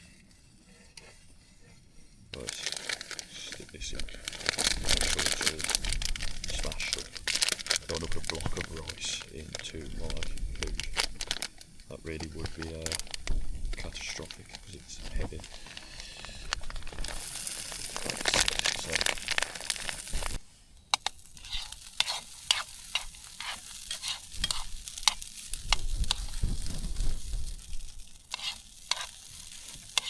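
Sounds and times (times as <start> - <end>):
utensil scraping a pan: 0.0 - 20.4, 21.0 - 30.0
food sizzling in a pan: 2.4 - 30.0.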